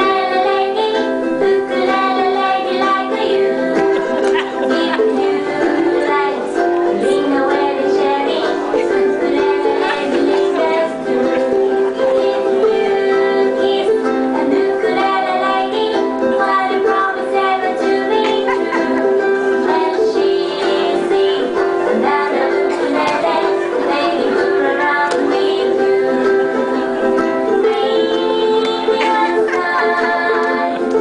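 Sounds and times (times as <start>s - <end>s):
upbeat ukulele music: 0.0s - 31.0s.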